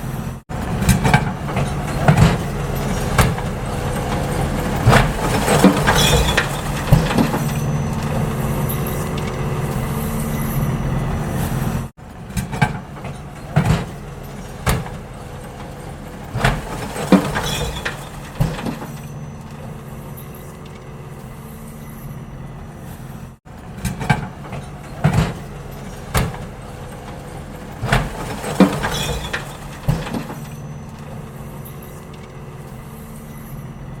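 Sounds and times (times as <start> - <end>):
garbage truck engine idling: 0.0 - 34.0
sharp metal clanks and bangs: 0.0 - 34.0.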